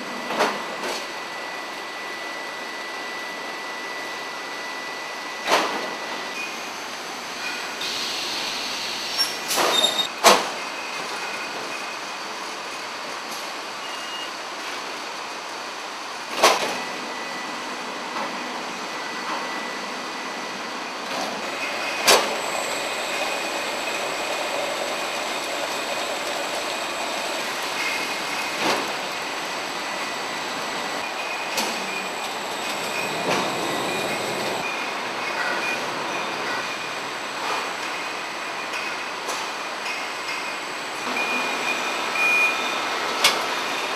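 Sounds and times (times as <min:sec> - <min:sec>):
machinery rumble and hiss: 0:00.0 - 0:43.9.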